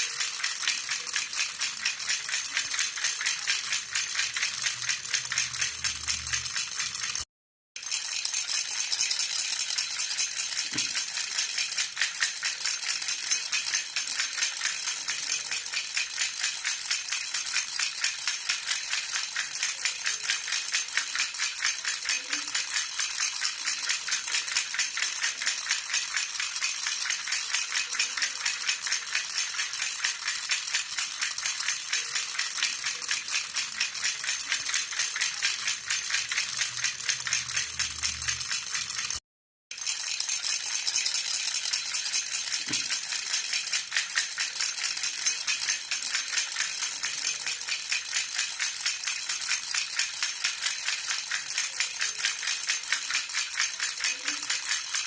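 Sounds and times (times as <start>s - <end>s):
metal baby rattle jingling: 0.0s - 55.0s.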